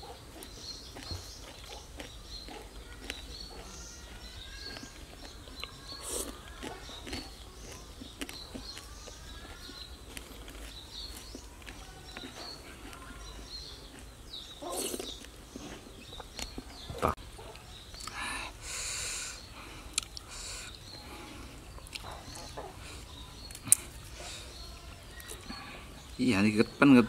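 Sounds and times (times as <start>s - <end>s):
small birds chirping: 0.0s - 27.0s
person chewing: 0.3s - 16.7s, 19.7s - 25.6s.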